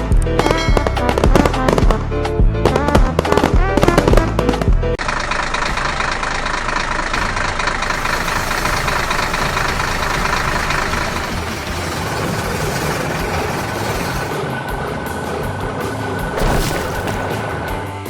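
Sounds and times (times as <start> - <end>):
construction machine engine rumbling: 3.2 - 18.0.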